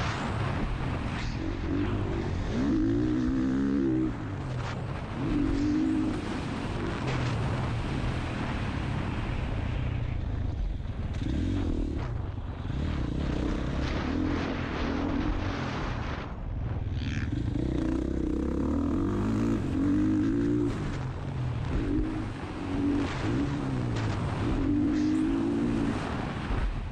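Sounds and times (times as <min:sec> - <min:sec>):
dirt bike engine revving: 0:00.0 - 0:09.2, 0:10.8 - 0:16.2, 0:16.8 - 0:26.9
wind rushing over microphone: 0:00.0 - 0:26.9.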